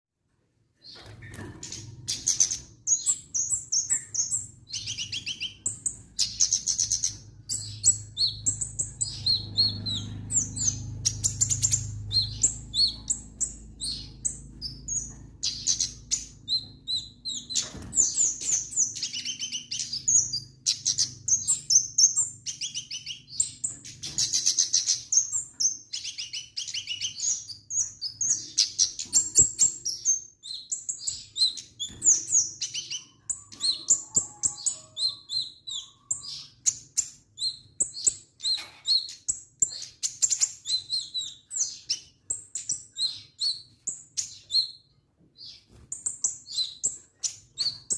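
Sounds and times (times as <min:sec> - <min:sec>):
songbird chirping and trilling: 0:00.8 - 0:47.9.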